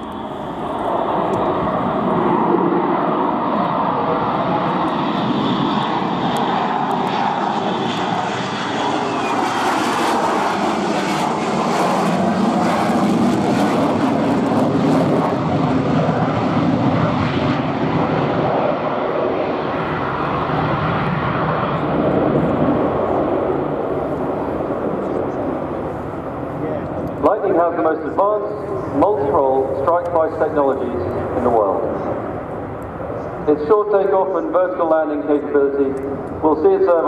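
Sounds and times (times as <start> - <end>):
jet engine roaring: 0.0 - 37.0
jet noise crackling: 0.0 - 37.0.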